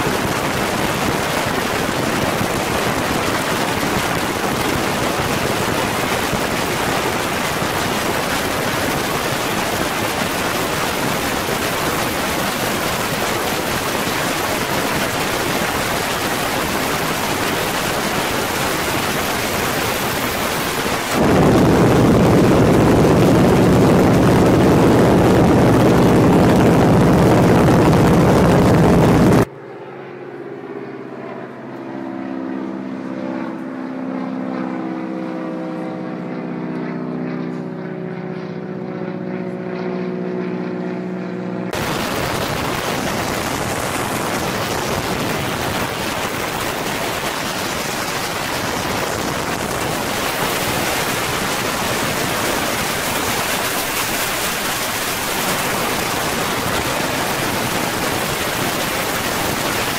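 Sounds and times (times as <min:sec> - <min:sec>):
wind noise in open cockpit: 0:00.0 - 0:29.6, 0:33.1 - 0:59.9
biplane engine and propeller: 0:00.0 - 0:59.9
distant plane engine drone: 0:00.0 - 0:59.9.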